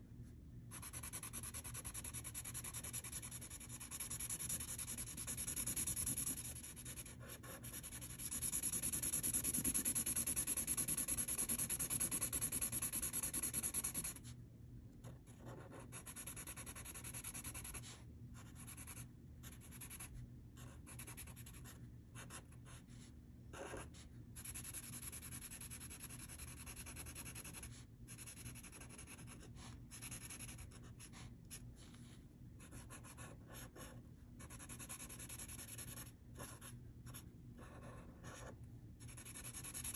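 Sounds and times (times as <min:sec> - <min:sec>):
marker scratching on paper: 0:00.7 - 0:14.3, 0:15.0 - 0:39.9.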